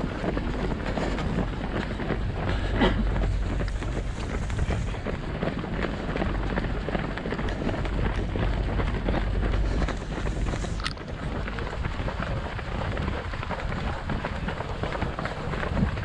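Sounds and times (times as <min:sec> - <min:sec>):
low rumble: 0:00.0 - 0:16.0
runners' footsteps on path: 0:00.0 - 0:16.0
wind buffeting microphone: 0:00.0 - 0:16.0.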